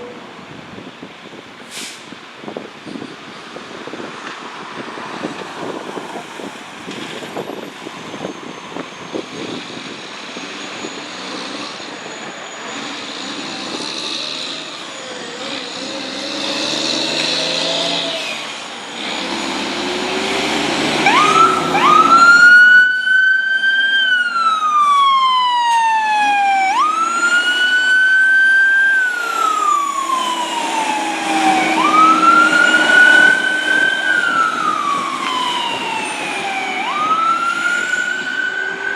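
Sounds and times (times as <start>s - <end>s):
fire truck siren wailing: 5.7s - 38.9s.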